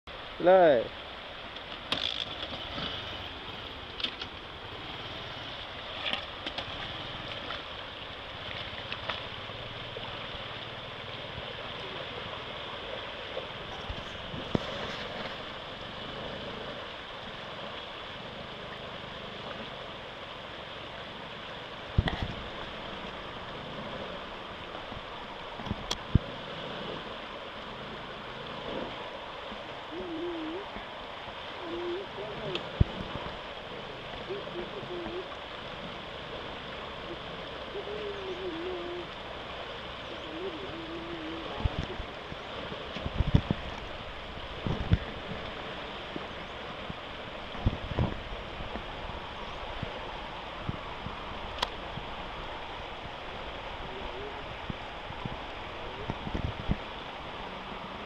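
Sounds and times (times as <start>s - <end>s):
river water rushing and splashing: 0.1s - 58.0s.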